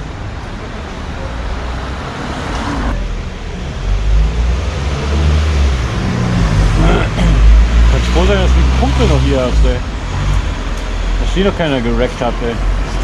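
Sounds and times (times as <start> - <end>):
vehicle engine rumble passing: 0.0 - 13.0.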